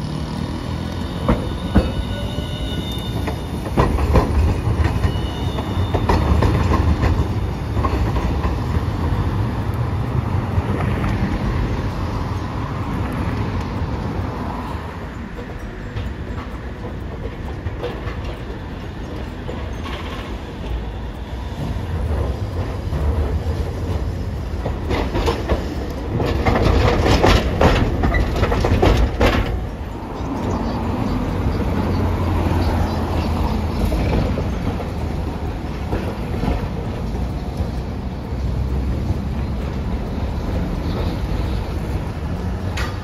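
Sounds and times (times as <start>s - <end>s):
low rumble of street traffic: 0.0s - 43.0s
streetcar wheels clacking: 0.0s - 43.0s.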